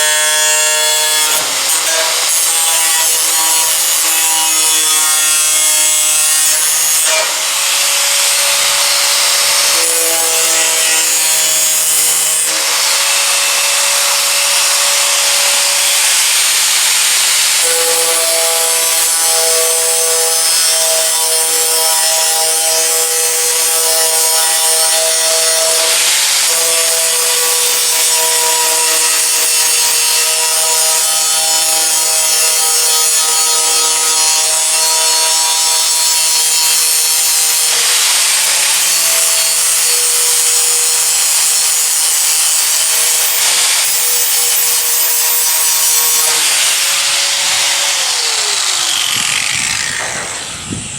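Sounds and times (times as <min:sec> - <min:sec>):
power tool grinding sheet steel: 0:00.0 - 0:50.9.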